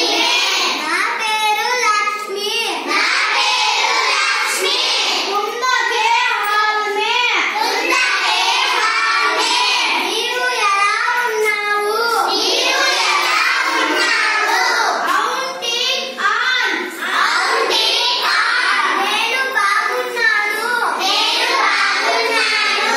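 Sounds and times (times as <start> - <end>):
children singing: 0.0 - 0.9, 2.8 - 22.9.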